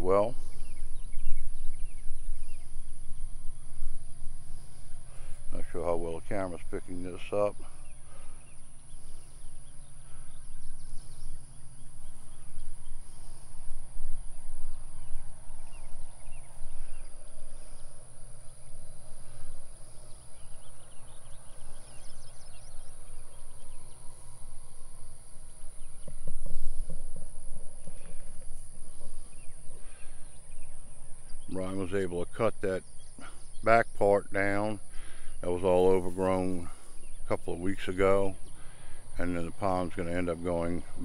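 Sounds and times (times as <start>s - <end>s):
insects buzzing: 0.0s - 41.0s.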